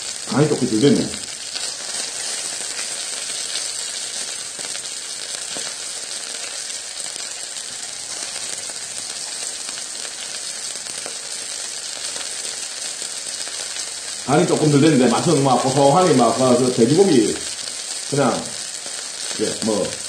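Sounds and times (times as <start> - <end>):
meat sizzling on a griddle: 0.0 - 20.0.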